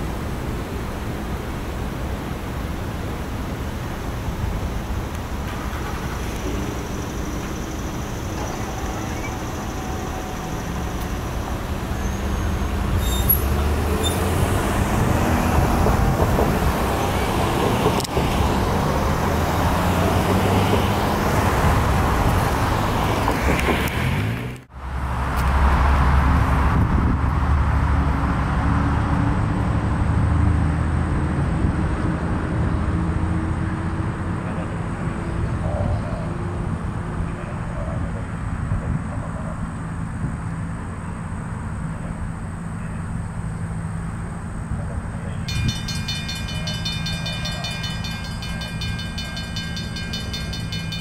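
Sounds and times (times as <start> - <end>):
road traffic driving past: 0.0 - 51.0.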